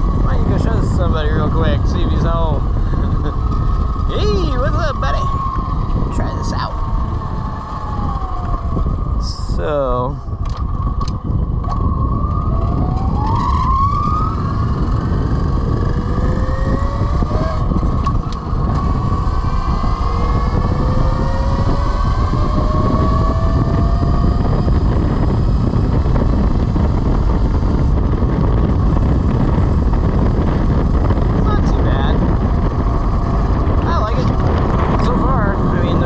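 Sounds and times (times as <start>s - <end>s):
electric motorcycle motor whine: 0.0s - 36.0s
wind and road noise: 0.0s - 36.0s.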